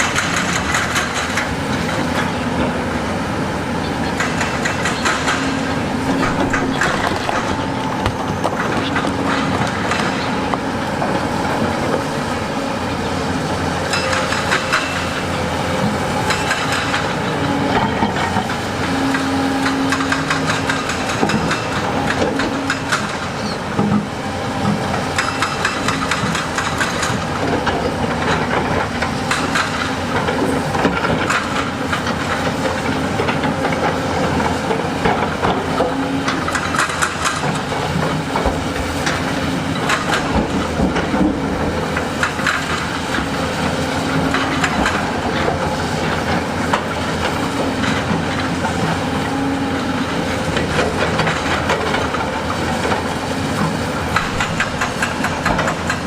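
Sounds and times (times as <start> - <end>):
diesel engine drone: 0.0 - 56.0
machinery rattling and clanking: 0.0 - 56.0.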